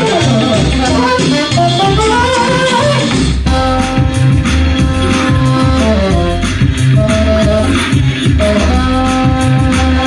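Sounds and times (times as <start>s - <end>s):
backing track with bass beat: 0.0s - 10.0s
saxophone melody: 0.0s - 10.0s.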